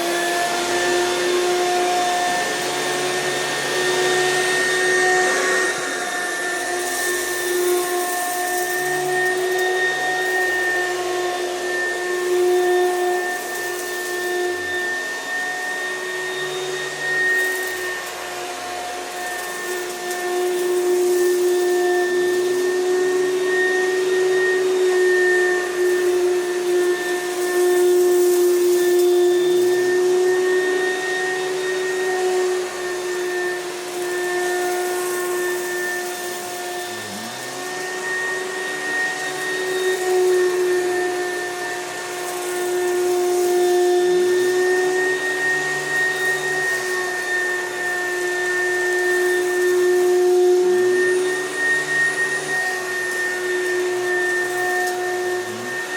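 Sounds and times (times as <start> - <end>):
vacuum cleaner running: 0.0 - 55.9.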